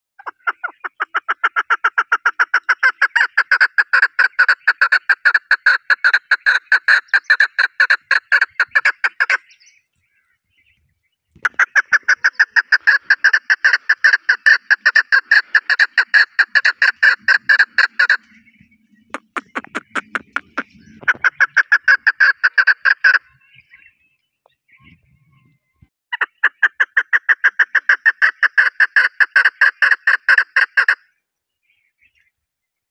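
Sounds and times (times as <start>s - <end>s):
partridge clucking calls: 0.2s - 9.6s, 11.3s - 23.7s, 24.8s - 31.0s.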